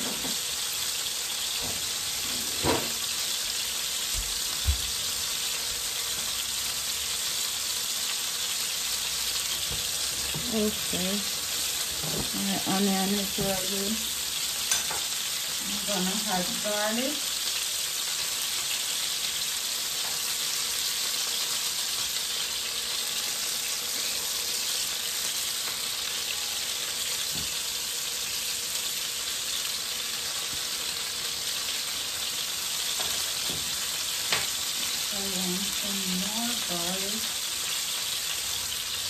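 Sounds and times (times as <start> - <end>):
fish frying in oil: 0.0 - 39.0.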